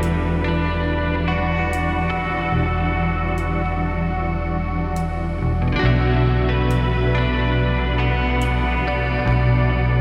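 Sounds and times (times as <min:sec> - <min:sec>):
electric guitar chords with echo: 0:00.0 - 0:10.0
low bass notes: 0:00.0 - 0:10.0.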